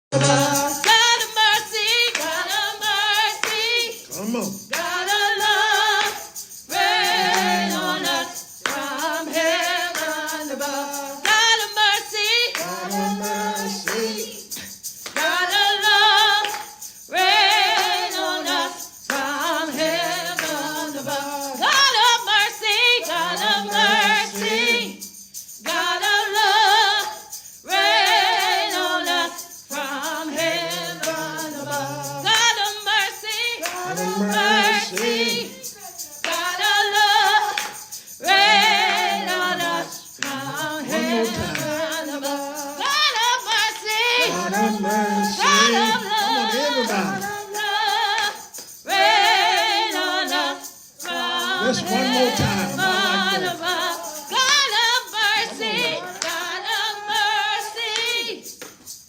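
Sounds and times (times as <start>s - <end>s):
person singing gospel song: 0.0s - 59.0s.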